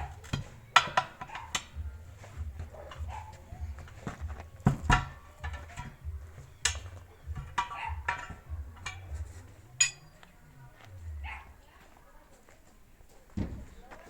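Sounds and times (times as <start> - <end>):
tools clanking on steel wheel: 0.0 - 11.4.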